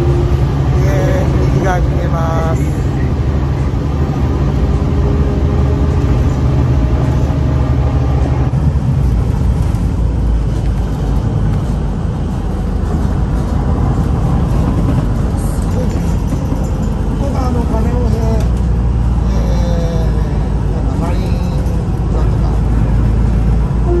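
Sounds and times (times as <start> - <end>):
bus engine drone: 0.0 - 24.0
tyre and road noise: 0.0 - 24.0.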